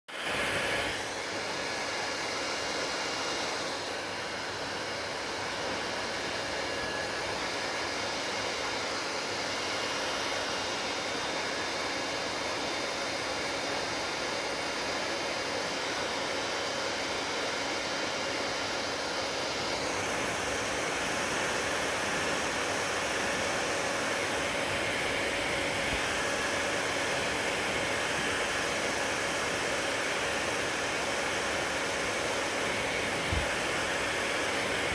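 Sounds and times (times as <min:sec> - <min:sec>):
hair dryer blowing: 0:00.1 - 0:34.9.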